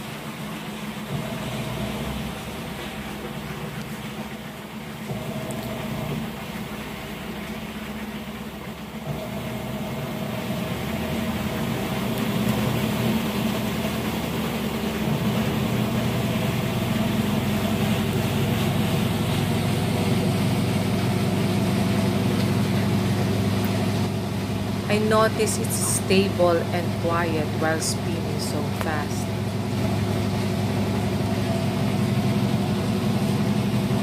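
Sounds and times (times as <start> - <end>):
washing machine spin cycle hum: 0.0 - 34.0.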